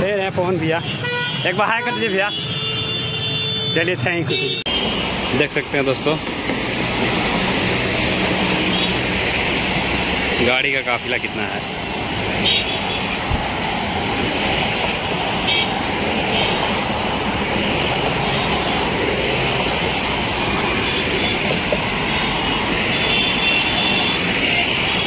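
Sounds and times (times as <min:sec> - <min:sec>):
cars driving past: 0:04.7 - 0:25.0.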